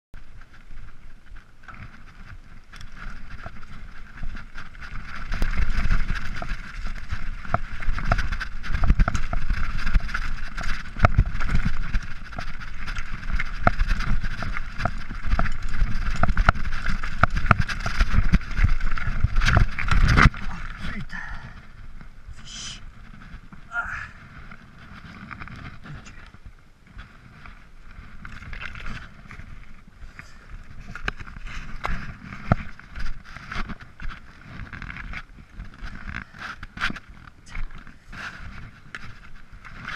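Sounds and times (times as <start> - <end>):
bike and stones clattering: 0.2 - 39.9
bike tyres crunching over rocks: 0.2 - 39.9.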